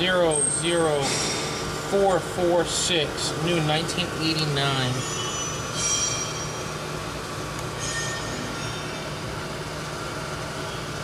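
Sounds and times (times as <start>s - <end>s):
punch press idling hum: 0.0s - 11.0s.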